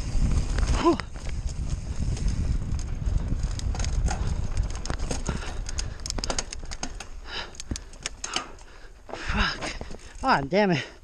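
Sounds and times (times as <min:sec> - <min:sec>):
wind rumbling on microphone: 0:00.0 - 0:10.5
bike rattling on stony ground: 0:00.0 - 0:11.0.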